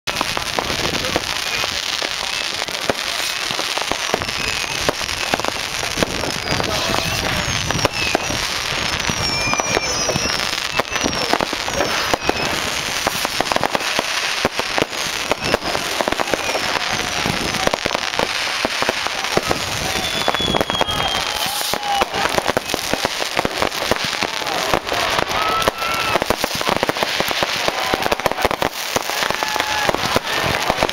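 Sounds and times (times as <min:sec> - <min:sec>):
fireworks crackling and banging: 0:00.0 - 0:30.9
falling firework whistles: 0:00.2 - 0:30.9.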